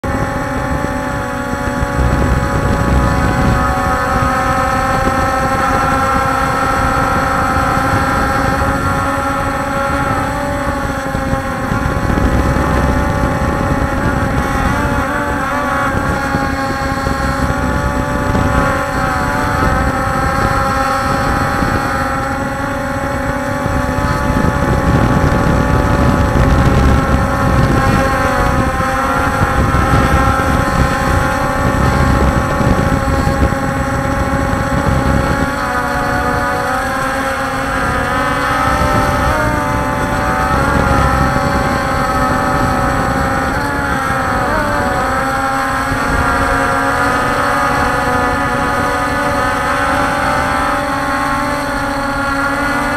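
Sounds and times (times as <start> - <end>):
drones hovering: 0.0 - 52.9.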